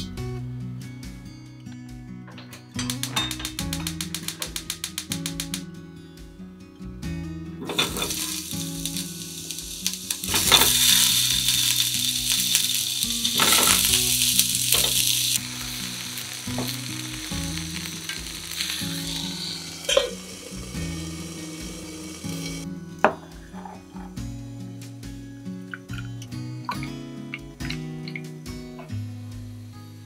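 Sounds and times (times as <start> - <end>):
oil sizzling: 2.6 - 5.8, 7.6 - 30.0.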